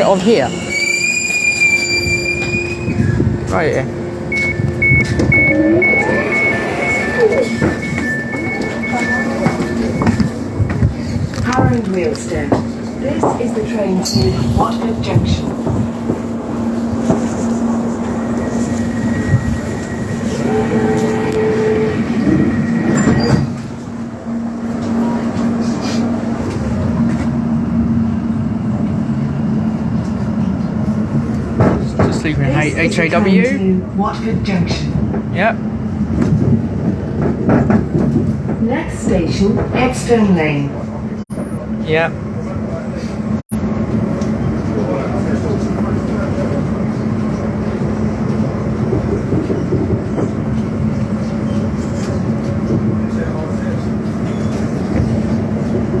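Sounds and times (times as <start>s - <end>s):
train carriage clatter: 0.0s - 41.2s, 43.9s - 56.0s
electric train running hum: 0.0s - 56.0s.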